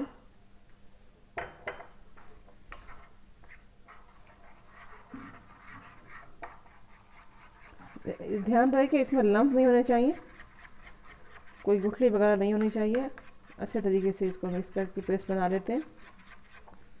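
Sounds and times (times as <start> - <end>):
spoon scraping in ceramic bowl: 2.8 - 16.7.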